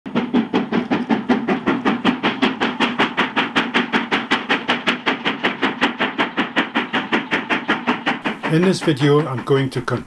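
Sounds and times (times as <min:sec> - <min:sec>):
steam locomotive chuffing: 0:00.1 - 0:10.0.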